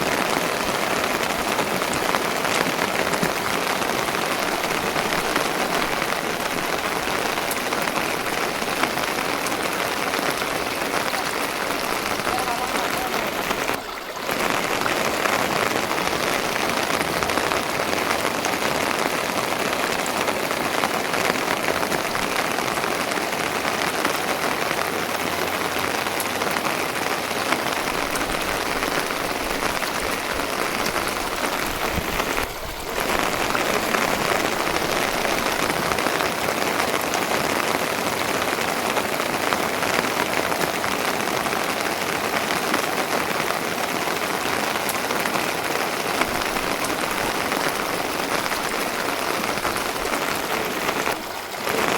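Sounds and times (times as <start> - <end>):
heavy rain pattering: 0.0 - 51.9.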